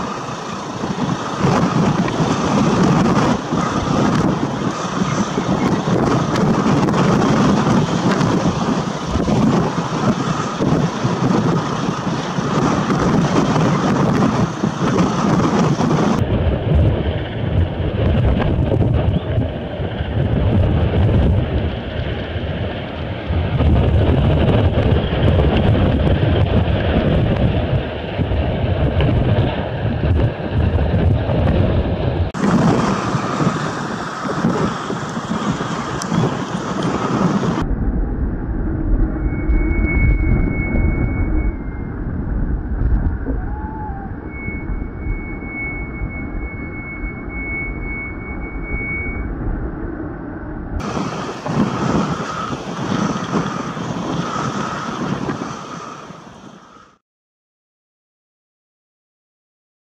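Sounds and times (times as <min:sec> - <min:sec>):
rough sea: 0:00.0 - 0:57.0
wind buffeting the microphone: 0:00.0 - 0:57.0.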